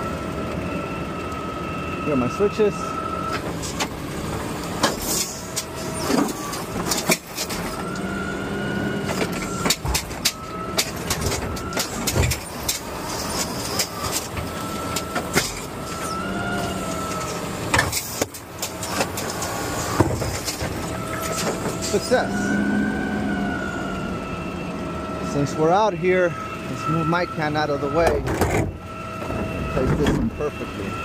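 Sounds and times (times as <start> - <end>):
engine and hydraulic pump whine: 0.0 - 31.0.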